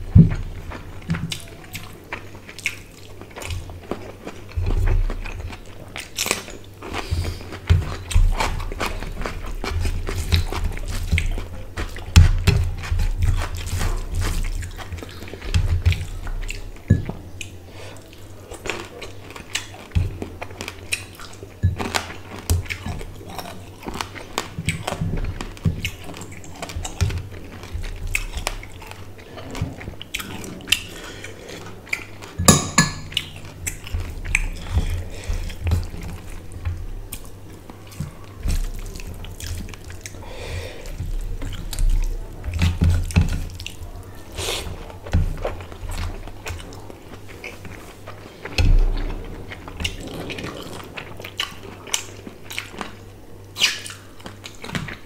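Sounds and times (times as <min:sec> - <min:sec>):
fingers working rice through curry: 0:00.0 - 0:55.0
wet chewing and lip smacks: 0:00.7 - 0:32.4, 0:40.8 - 0:55.0.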